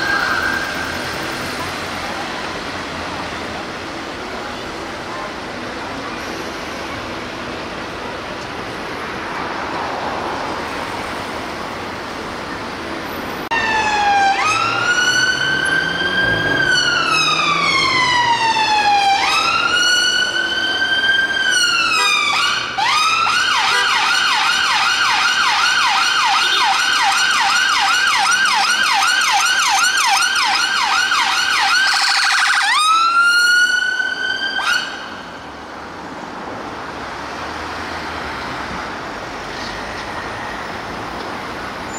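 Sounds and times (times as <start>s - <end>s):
traffic noise: 0.0s - 41.9s.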